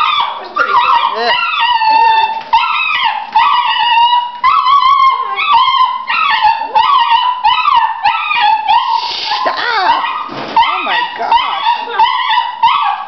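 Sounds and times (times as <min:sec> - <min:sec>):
puppies whining and whimpering: 0:00.0 - 0:13.0.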